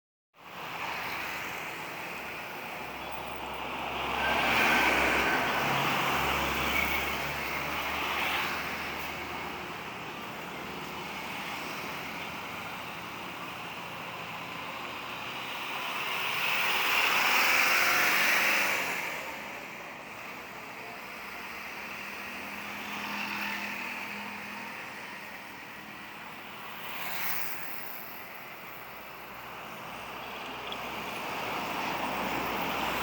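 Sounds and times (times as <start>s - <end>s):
vehicles passing by: 0.4s - 33.0s.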